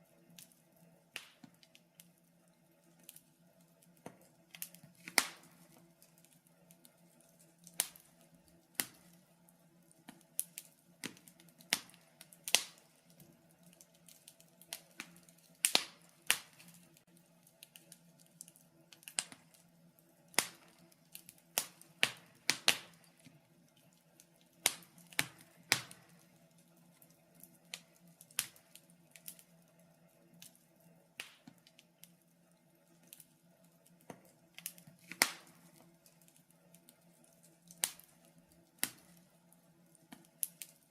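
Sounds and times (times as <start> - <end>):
faint steady hum: 0.0 - 40.9
wood fire popping and snapping: 0.0 - 40.9.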